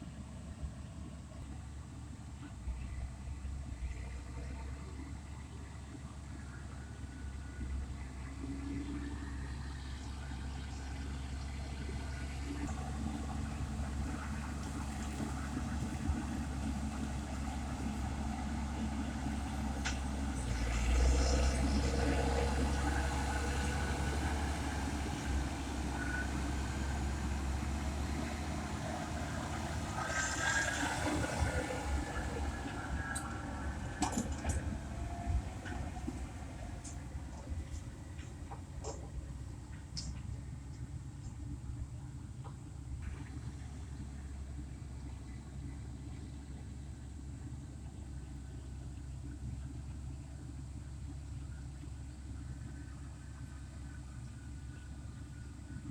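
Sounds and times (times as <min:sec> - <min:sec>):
farm vehicle engines rumbling: 0:00.0 - 0:55.9.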